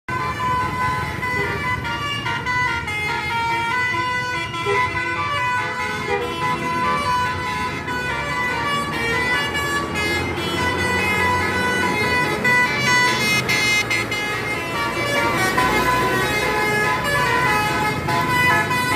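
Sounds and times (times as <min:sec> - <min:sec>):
bus musical horn melody: 0:00.1 - 0:18.9.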